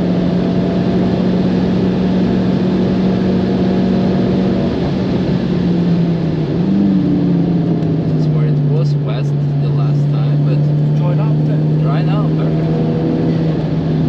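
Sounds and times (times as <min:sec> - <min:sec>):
car engine at high revs: 0:00.0 - 0:14.0
road and wind noise: 0:00.0 - 0:14.0.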